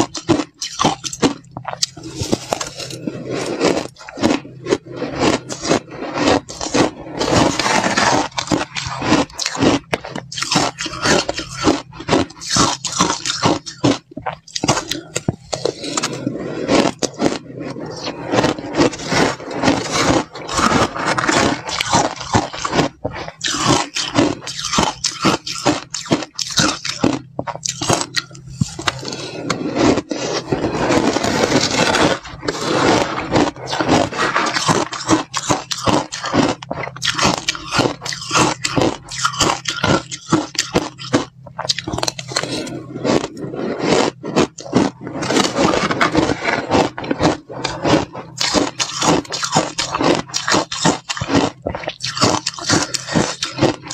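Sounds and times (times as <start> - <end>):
ice crunching: 0.1 - 53.9.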